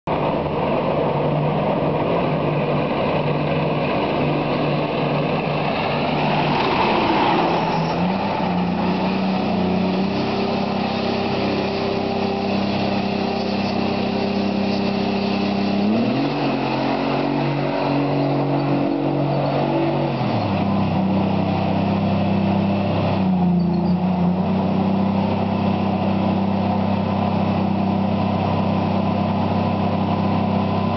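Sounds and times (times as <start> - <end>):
tank diesel engine passing: 0.1 - 30.9.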